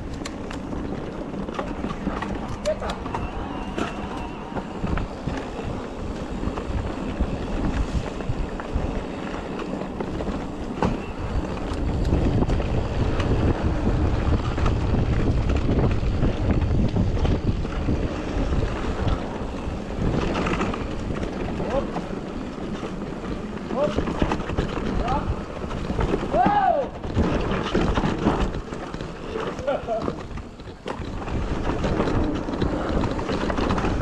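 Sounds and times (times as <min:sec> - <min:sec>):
bike rattling over rough ground: 0:00.0 - 0:34.0
tyres rumbling on dirt: 0:00.0 - 0:34.0
wind rushing over microphone: 0:00.0 - 0:34.0.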